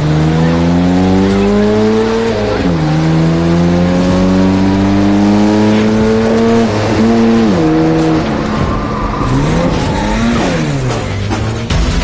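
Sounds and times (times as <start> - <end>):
car engine accelerating and revving: 0.0 - 11.7.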